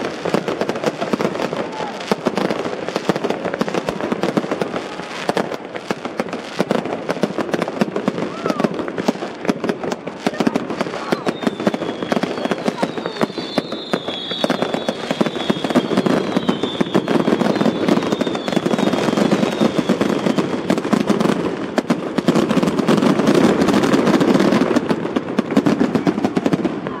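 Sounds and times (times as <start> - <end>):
fireworks crackling and popping: 0.0 - 27.0
fireworks whistling: 0.0 - 27.0.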